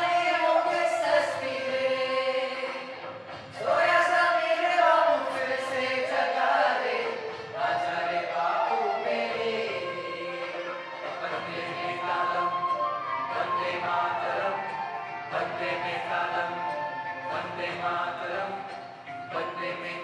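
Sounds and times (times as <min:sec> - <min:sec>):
boys singing together: 0:00.0 - 0:20.0.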